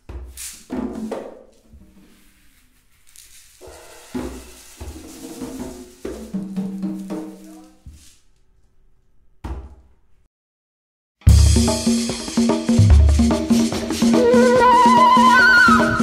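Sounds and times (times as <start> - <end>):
hand drum strokes: 0.0 - 8.1, 11.3 - 16.0.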